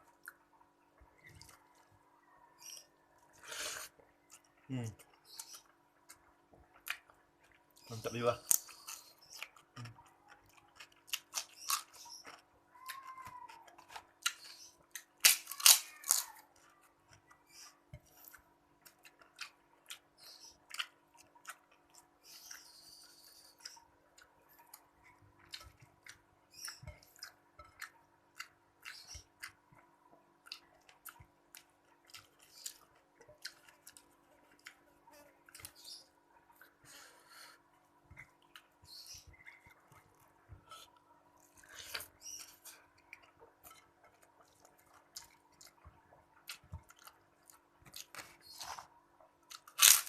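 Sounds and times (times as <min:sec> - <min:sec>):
person chewing and smacking: 0:03.8 - 0:36.8, 0:37.6 - 0:50.0.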